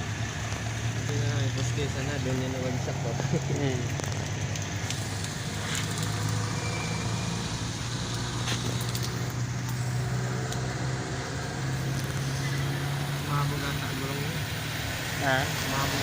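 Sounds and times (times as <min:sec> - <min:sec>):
vehicle engine at low revs: 0:00.0 - 0:16.0.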